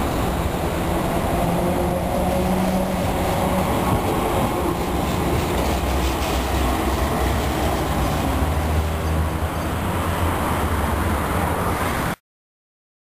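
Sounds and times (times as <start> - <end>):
tram wheels rumbling on rails: 0.0 - 11.9.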